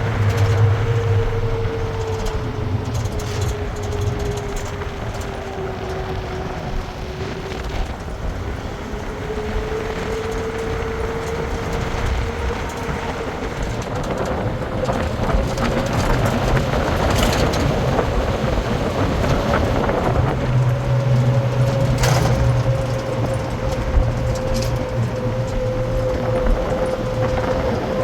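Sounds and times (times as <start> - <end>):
vehicle rumbling in motion: 0.0 - 28.0.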